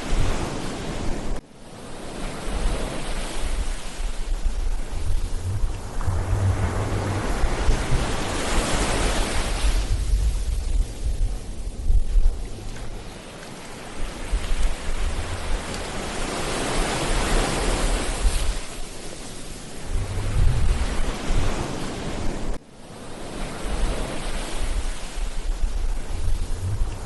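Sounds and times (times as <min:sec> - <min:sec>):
ocean wave rushing: 0:00.0 - 0:11.8, 0:12.4 - 0:27.0
wind buffeting microphone: 0:02.5 - 0:18.9, 0:19.5 - 0:22.6, 0:23.6 - 0:27.0.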